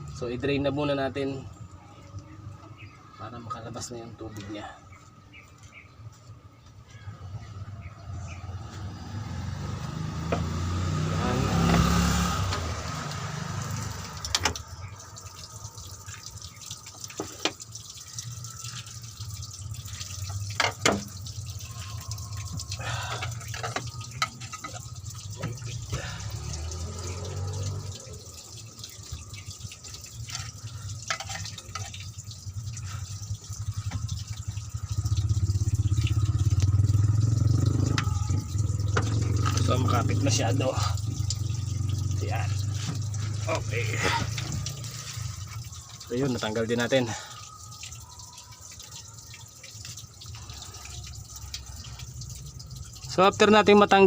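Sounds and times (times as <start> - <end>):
coolant draining and dripping: 0.0 - 54.0.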